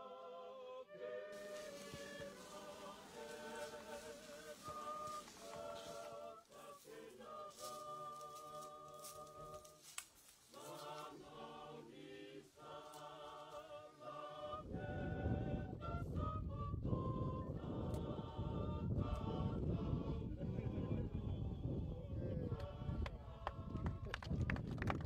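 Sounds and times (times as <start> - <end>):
choir singing unaccompanied: 0.0 - 9.8, 10.5 - 24.0.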